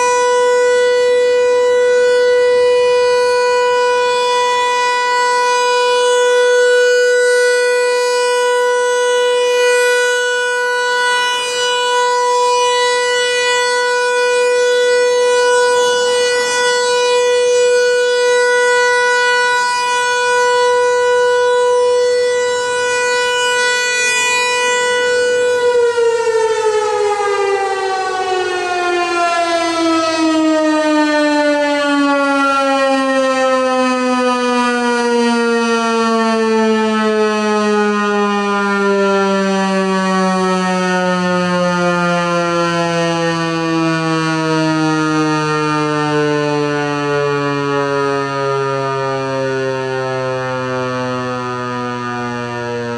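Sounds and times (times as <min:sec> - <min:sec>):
warning siren: 0:00.0 - 0:52.9.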